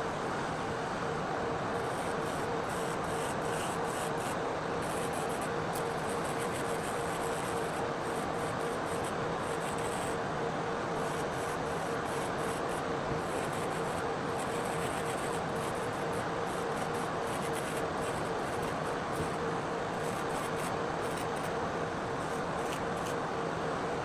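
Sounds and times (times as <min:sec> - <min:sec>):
vacuum fan running: 0:00.0 - 0:24.0.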